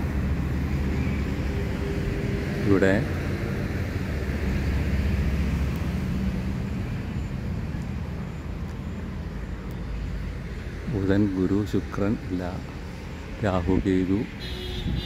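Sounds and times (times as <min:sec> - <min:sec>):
highway traffic rumble: 0:00.0 - 0:15.0.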